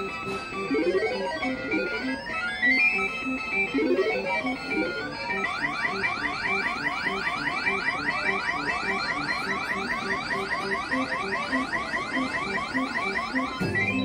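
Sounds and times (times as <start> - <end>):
low repeating beeps: 0.0 - 14.0.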